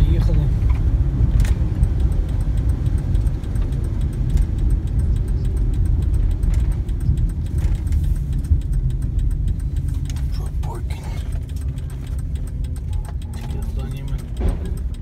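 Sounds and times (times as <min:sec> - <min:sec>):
faint rapid ticking: 0:00.0 - 0:15.0
truck engine and tyres rumbling: 0:00.0 - 0:15.0.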